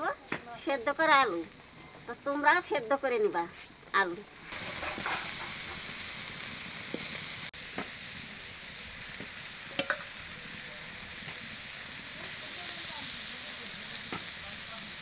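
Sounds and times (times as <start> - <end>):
frying hiss: 0.0 - 15.0.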